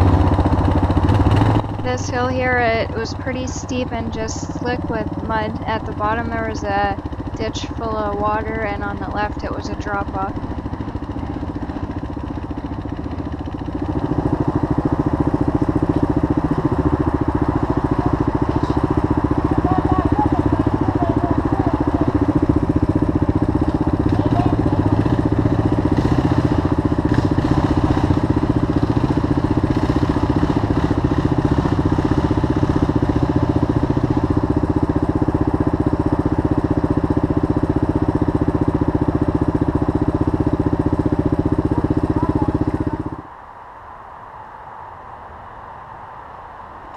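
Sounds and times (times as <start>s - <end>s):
motorcycle engine running: 0.0s - 43.3s.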